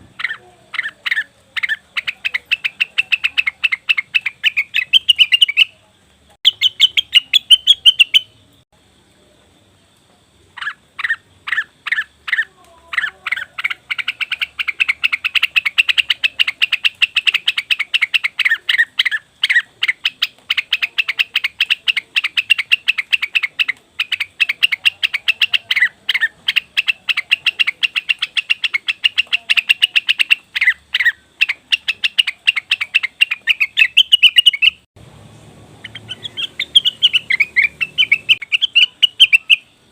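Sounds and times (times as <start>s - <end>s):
bird chattering call: 0.0s - 5.8s, 6.4s - 8.4s, 10.6s - 34.9s, 35.8s - 39.8s.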